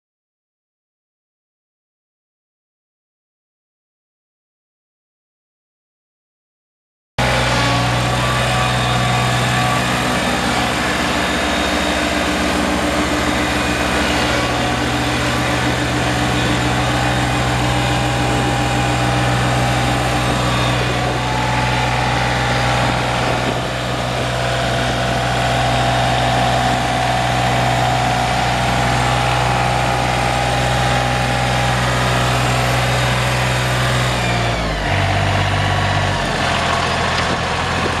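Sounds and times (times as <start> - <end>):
mower diesel engine running: 7.2 - 38.0.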